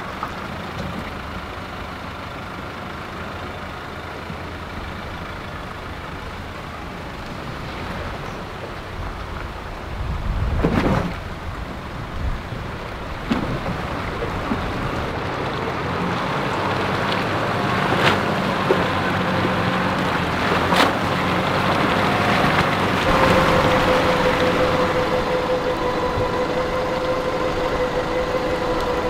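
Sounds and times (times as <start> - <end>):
vehicle engine running: 0.0 - 10.5, 11.2 - 29.0
water splashing around tyres: 0.0 - 29.0.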